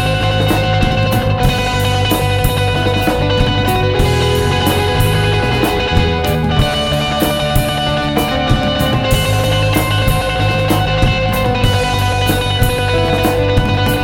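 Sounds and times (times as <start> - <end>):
bass guitar: 0.0 - 14.0
distorted electric guitars: 0.0 - 14.0
drum kit: 0.0 - 14.0.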